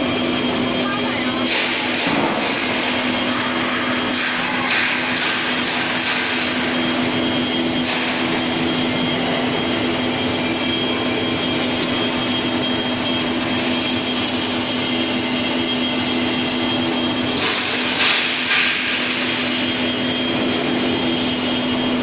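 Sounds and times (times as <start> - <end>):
oil press machine droning: 0.0 - 22.0.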